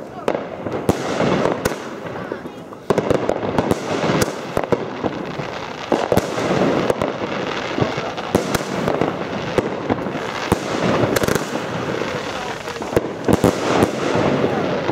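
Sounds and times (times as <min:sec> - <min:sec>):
fireworks bangs: 0:00.0 - 0:14.9
fireworks crackling hiss: 0:00.0 - 0:14.9.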